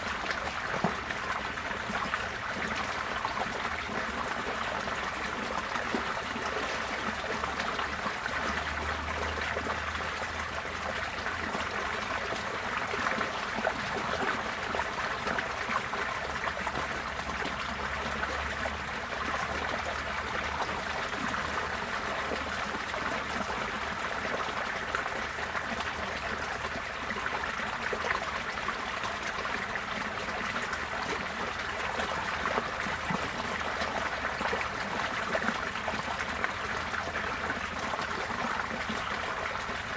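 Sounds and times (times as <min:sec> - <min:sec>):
floodwater rushing and trickling: 0:00.0 - 0:39.9.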